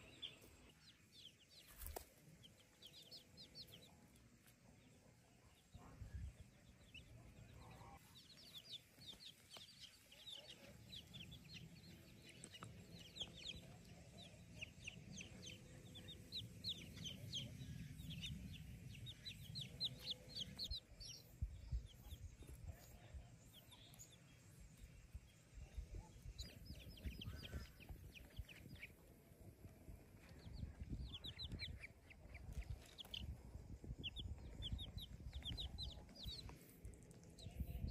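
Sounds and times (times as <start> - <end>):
baby chicks peeping: 0.0 - 37.9.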